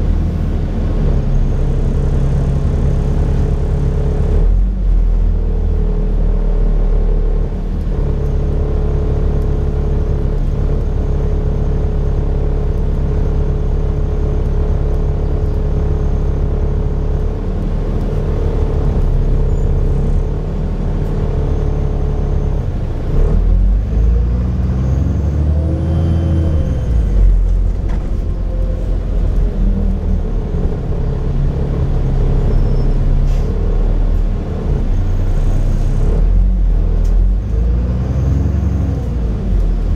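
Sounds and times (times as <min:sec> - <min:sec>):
diesel bus engine droning: 0:00.0 - 0:39.9.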